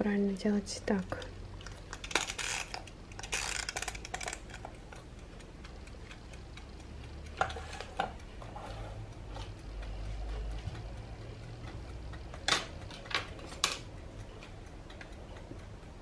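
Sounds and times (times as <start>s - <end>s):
kitchen timer ticking: 0.0s - 16.0s
timer dial scraping: 0.9s - 16.0s.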